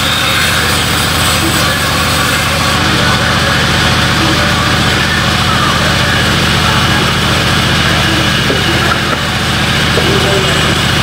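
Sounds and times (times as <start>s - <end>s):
band saw running: 0.0s - 11.0s.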